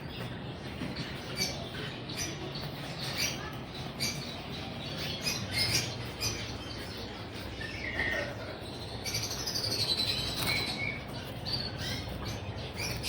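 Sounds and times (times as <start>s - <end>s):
low background murmur: 0.0s - 13.0s
songbirds chirping: 0.0s - 13.0s.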